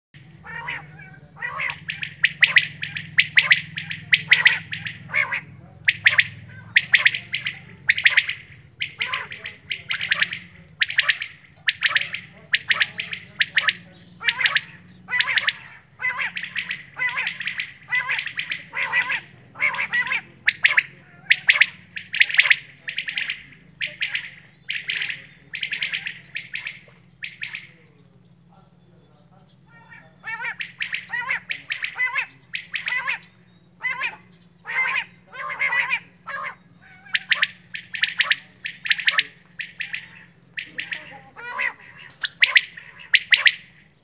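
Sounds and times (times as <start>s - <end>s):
quail calling: 0.2s - 44.0s
steady low hum: 0.2s - 44.0s.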